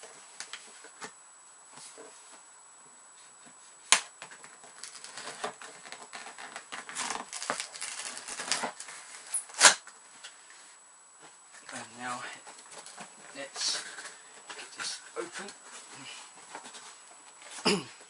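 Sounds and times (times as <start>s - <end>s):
rustling and scraping: 3.2s - 17.6s.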